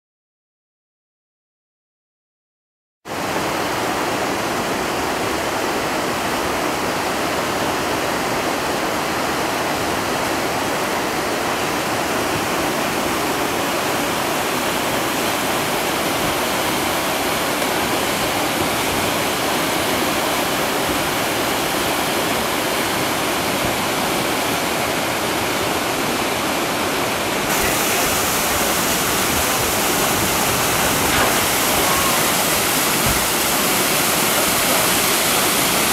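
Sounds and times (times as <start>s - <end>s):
white-water rapids rushing: 3.1s - 35.9s.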